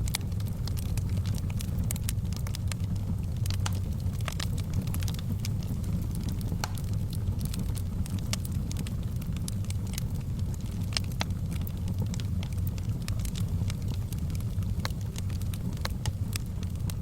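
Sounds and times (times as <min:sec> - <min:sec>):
fire crackling and popping: 0:00.0 - 0:17.0
low rush of burning: 0:00.0 - 0:17.0.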